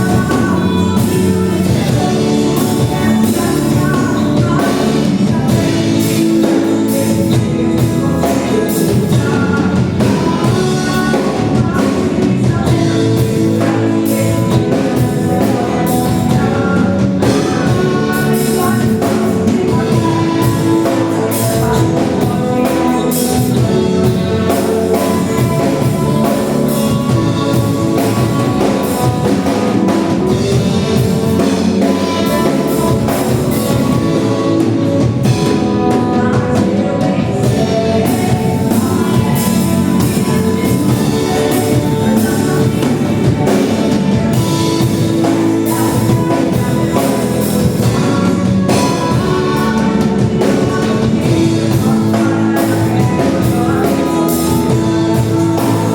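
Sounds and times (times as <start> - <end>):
worship band playing: 0.0 - 55.9.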